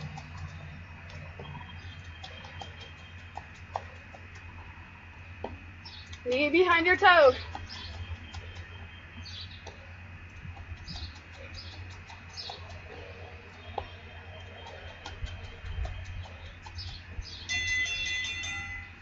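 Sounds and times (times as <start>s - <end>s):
small birds chirping: 0.0s - 17.6s
steady low rumble: 0.0s - 19.0s.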